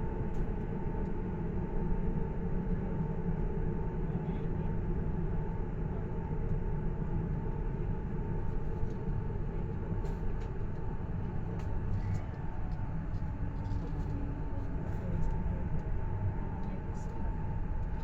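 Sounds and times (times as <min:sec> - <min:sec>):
passenger train rumble from inside: 0:00.0 - 0:18.0.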